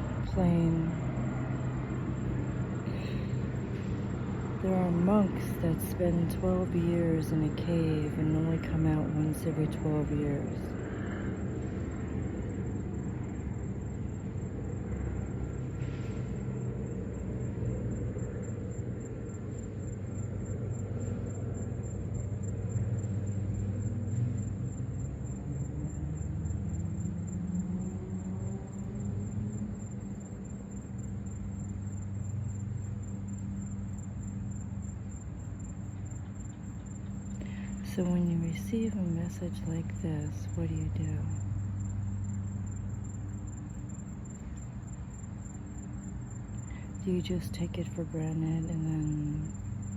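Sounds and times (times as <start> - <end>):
airplane passing overhead: 0.0 - 49.9.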